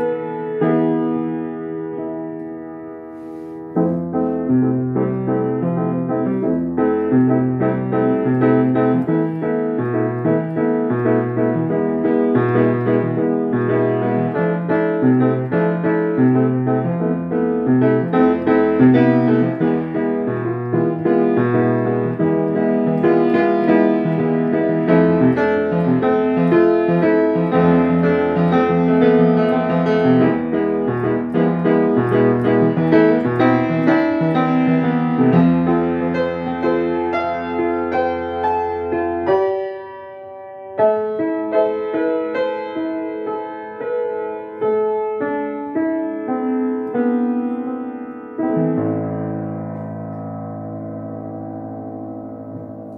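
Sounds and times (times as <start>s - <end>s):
grand piano playing: 0.0s - 52.9s.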